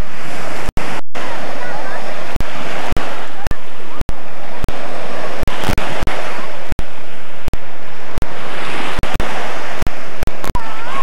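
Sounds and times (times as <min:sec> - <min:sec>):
waves washing onto beach: 0:00.0 - 0:11.0.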